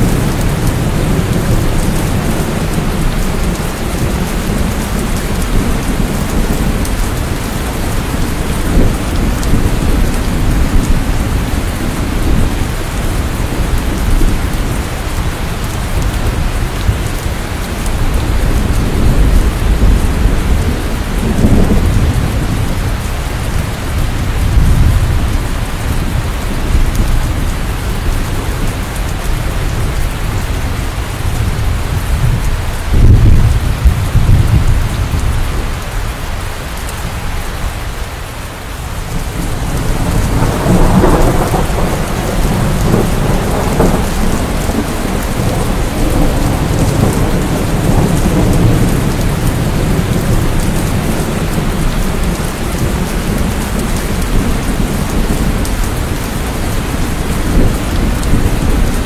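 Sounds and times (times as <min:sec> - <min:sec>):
heavy rain: 0:00.0 - 0:59.0
thunder rumbling: 0:00.0 - 0:59.0.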